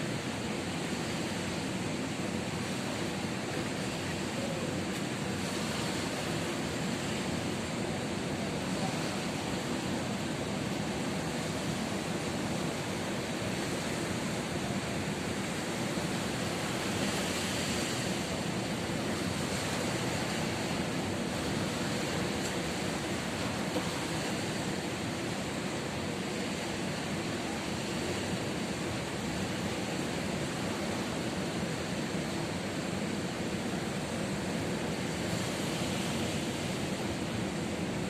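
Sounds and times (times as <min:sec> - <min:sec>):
ocean surf rushing on shore: 0:00.0 - 0:38.0.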